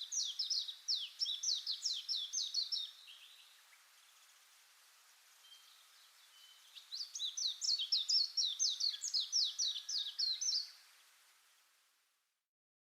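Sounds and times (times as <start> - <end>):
faint hiss: 0.0 - 12.5.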